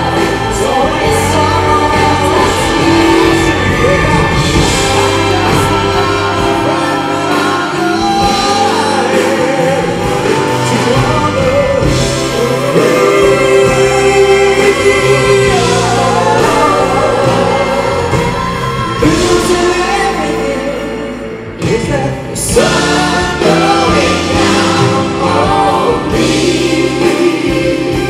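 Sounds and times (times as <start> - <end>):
group of singers: 0.0 - 28.0
symphony orchestra: 0.0 - 28.0.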